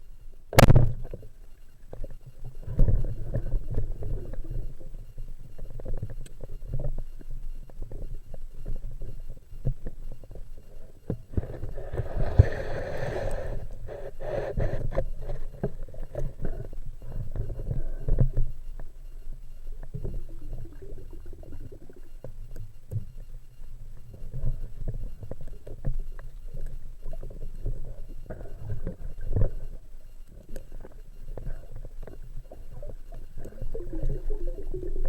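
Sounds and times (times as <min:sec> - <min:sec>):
muffled underwater rumble: 0:00.0 - 0:35.0.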